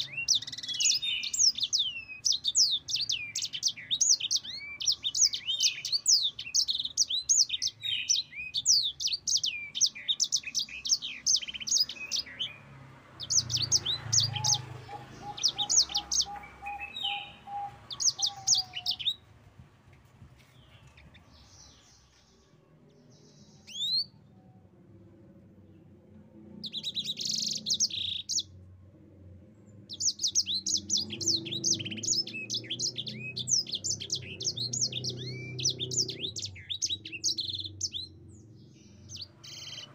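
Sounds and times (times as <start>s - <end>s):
canary twittering song: 0.0s - 19.2s, 20.6s - 24.2s, 26.6s - 28.6s, 29.8s - 39.9s.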